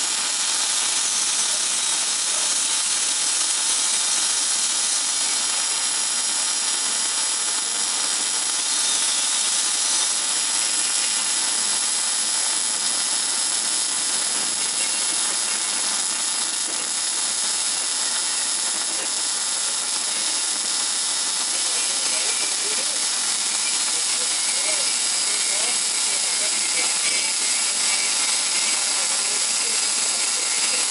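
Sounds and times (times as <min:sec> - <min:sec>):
welding arc hissing: 0:00.0 - 0:30.9.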